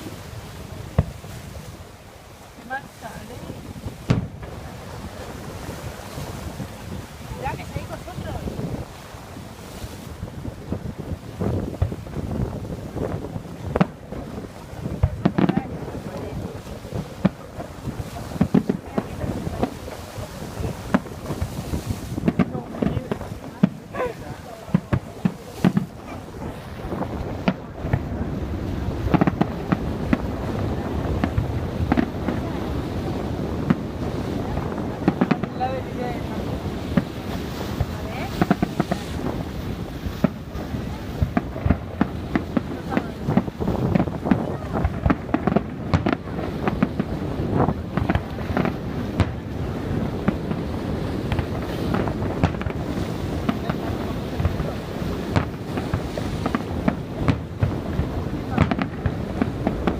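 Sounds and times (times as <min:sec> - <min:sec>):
fireworks bursting with sharp bangs: 0:00.0 - 0:59.9
steady low rumble: 0:00.0 - 0:59.9.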